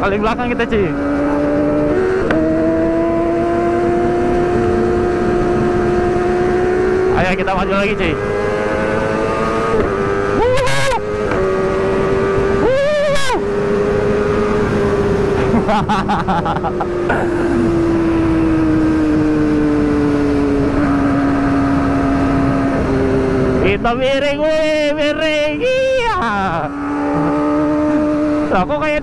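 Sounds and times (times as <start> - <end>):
wind noise: 0.0 - 24.8
motorcycle engine running: 0.0 - 29.0
other engines passing: 0.0 - 29.0.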